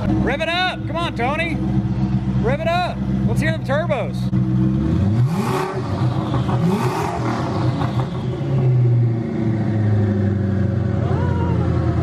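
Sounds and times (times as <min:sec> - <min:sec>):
car engine idling: 0:00.0 - 0:12.0
car engine revving: 0:00.0 - 0:12.0.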